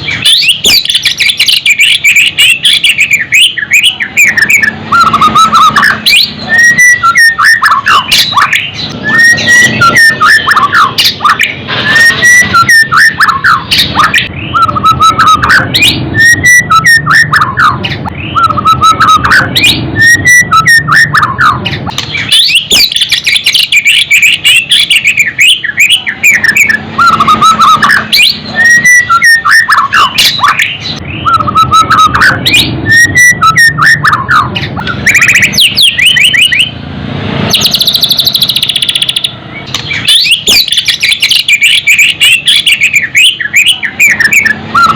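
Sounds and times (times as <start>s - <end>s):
songbird whistling and chirping: 0.0s - 36.8s, 37.4s - 44.9s.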